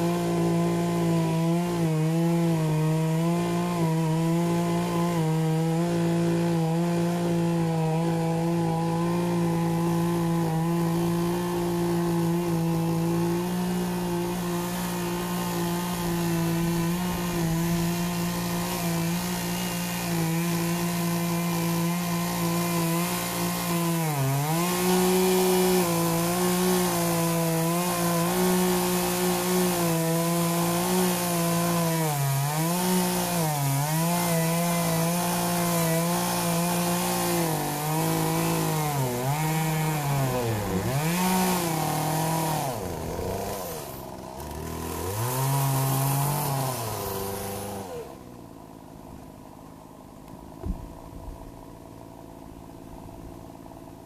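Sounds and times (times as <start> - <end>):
chainsaw cutting tree stump: 0.0 - 54.0.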